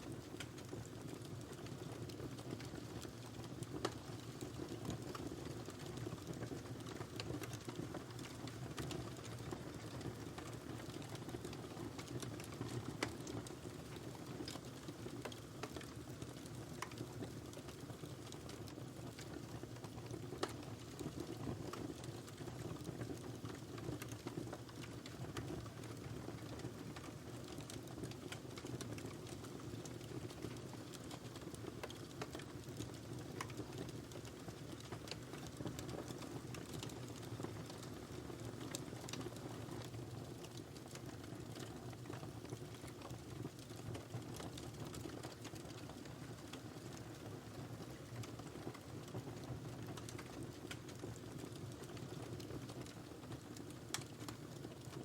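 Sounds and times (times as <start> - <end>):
fire crackles and pops: 0.0 - 55.0.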